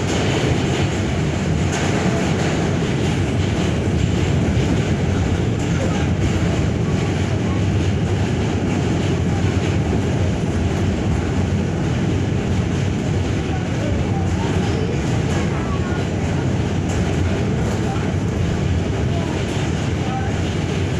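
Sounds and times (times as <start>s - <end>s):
subway wheels rumbling on rails: 0.0s - 20.9s.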